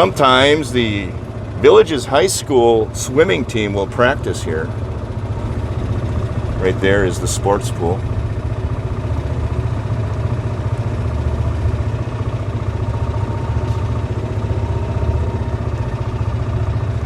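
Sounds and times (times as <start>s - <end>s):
golf cart driving: 0.0s - 17.0s.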